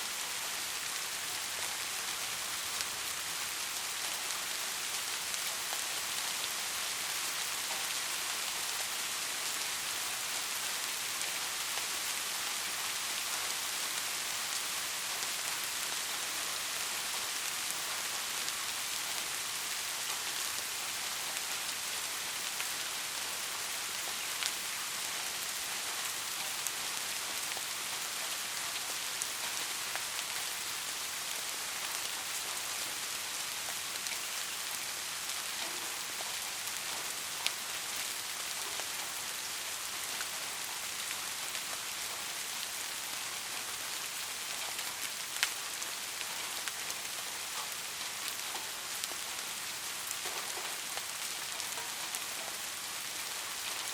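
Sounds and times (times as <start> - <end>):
steady rain hissing: 0.0 - 53.9.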